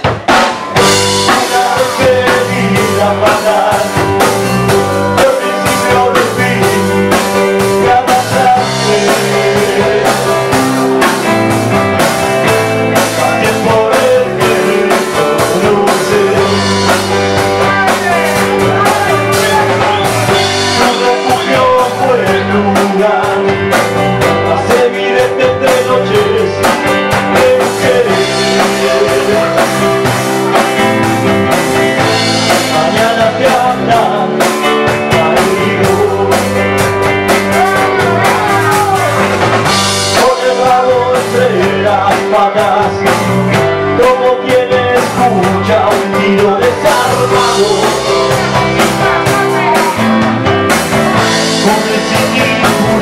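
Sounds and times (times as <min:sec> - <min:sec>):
bass guitar: 0:00.0 - 0:53.0
drum kit: 0:00.0 - 0:53.0
electric guitar: 0:00.0 - 0:53.0
man singing: 0:00.8 - 0:53.0.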